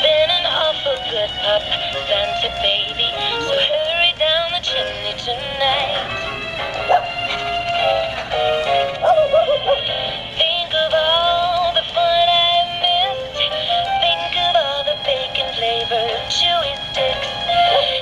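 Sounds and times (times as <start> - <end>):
tinny toy speaker song: 0.0 - 7.4, 8.8 - 18.0.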